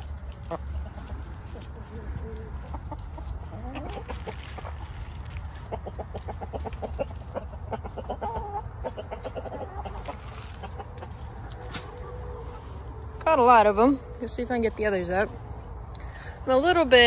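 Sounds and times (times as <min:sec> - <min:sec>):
hens clucking: 0:00.0 - 0:16.1.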